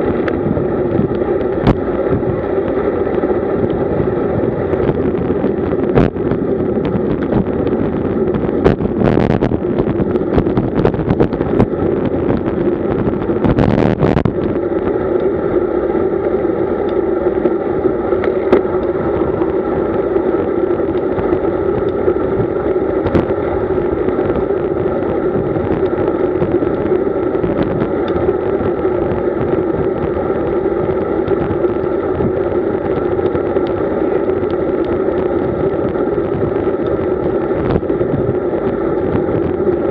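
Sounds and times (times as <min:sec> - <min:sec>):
droning hum: 0:00.0 - 0:39.9
road rumble: 0:00.0 - 0:39.9
wind rush: 0:00.0 - 0:39.9.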